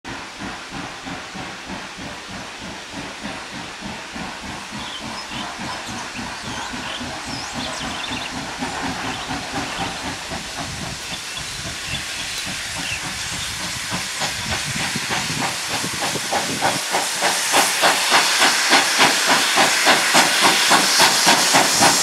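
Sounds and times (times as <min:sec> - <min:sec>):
steam hissing: 0:00.1 - 0:22.0
steam locomotive chuffing: 0:00.1 - 0:22.0.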